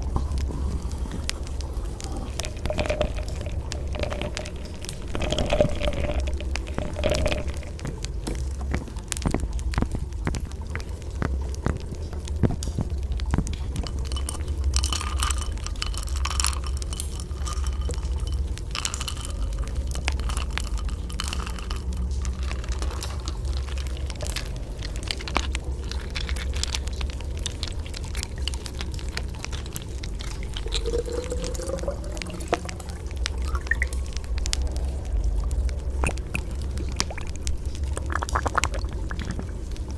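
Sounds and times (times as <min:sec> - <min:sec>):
rain drips and splashes: 0:00.0 - 0:39.9
steady low rumble: 0:00.0 - 0:39.9.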